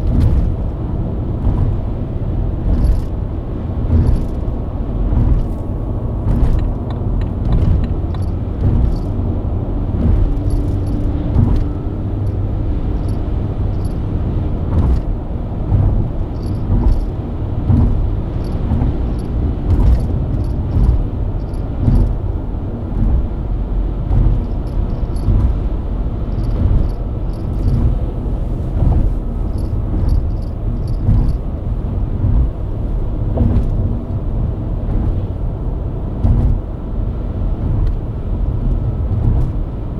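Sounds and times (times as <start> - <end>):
car engine cruising: 0.0 - 39.9
road and tyre rumble: 0.0 - 39.9.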